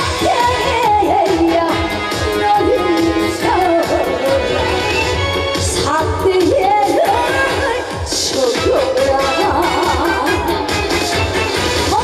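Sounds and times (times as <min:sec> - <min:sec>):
upbeat live band music: 0:00.0 - 0:12.0.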